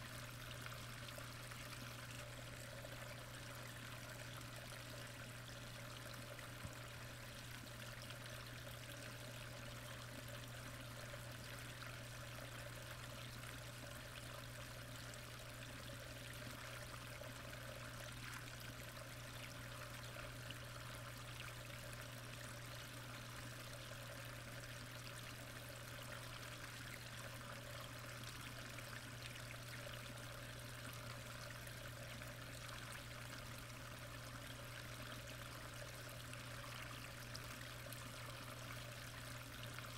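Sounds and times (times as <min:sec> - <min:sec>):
constant low hum: 0:00.0 - 0:39.9
running water heard underwater: 0:00.0 - 0:39.9.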